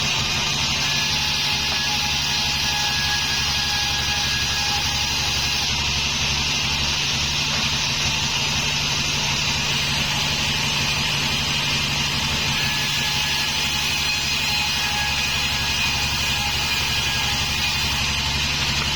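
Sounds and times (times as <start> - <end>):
sawmill engine drone: 0.0 - 18.9.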